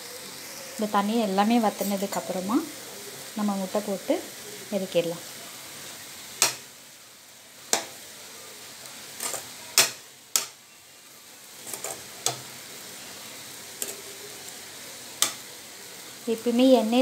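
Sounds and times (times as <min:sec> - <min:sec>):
vegetables sizzling: 0:00.0 - 0:17.0.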